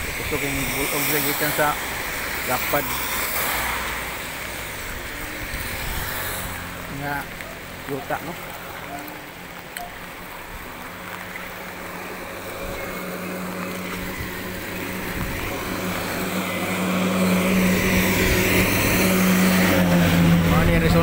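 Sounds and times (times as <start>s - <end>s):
floodwater rushing in drain: 0.0s - 20.5s
vehicle engine hum: 0.0s - 21.0s.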